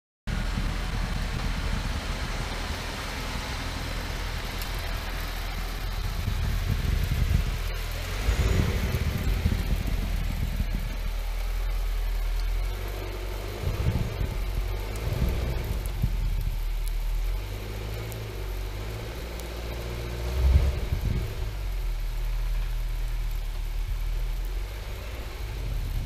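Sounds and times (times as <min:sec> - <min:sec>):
car engine low rumble: 0:00.3 - 0:26.0.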